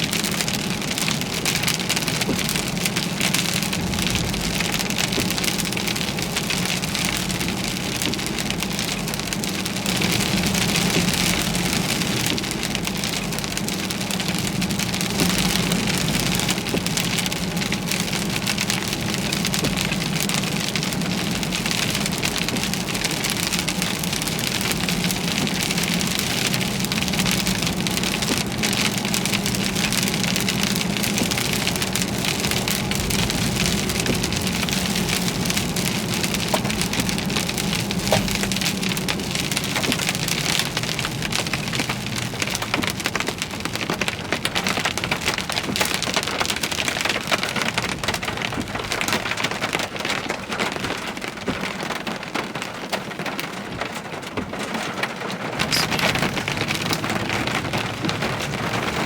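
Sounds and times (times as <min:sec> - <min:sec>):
engine and road hum: 0:00.0 - 0:59.0
heavy rain on a car: 0:00.0 - 0:59.0.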